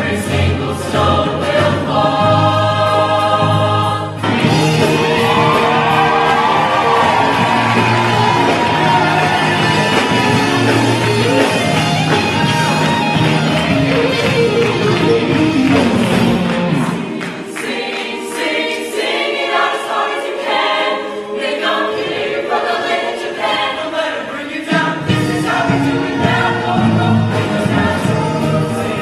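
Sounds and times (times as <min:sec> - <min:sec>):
choir singing: 0:00.0 - 0:29.0
musical accompaniment: 0:00.0 - 0:29.0.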